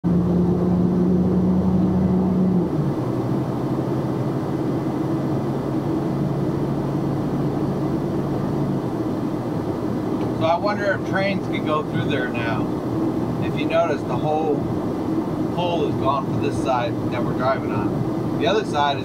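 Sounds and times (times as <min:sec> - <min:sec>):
road and tyre noise: 0:00.0 - 0:19.0
truck engine running: 0:00.0 - 0:19.0.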